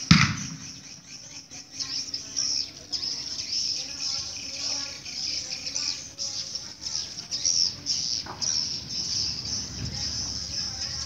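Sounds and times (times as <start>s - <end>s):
birds twittering: 0.0s - 11.0s.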